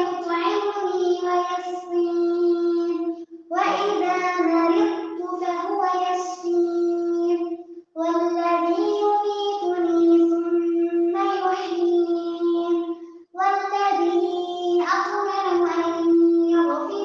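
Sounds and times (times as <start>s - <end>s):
girl reciting melodically: 0.0s - 17.0s.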